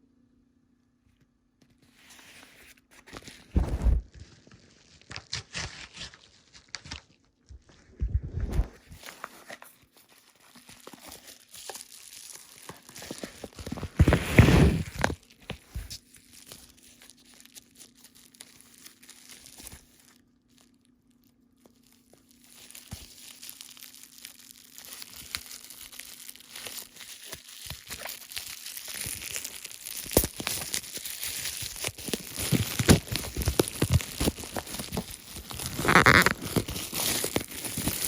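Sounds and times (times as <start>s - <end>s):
plastic wrapping crinkling and tearing: 2.0s - 7.9s, 8.5s - 38.0s.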